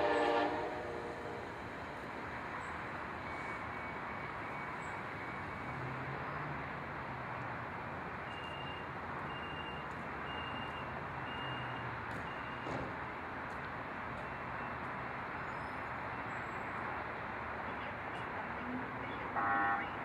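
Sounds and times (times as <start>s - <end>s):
vehicle and train rumble: 0.0s - 20.0s.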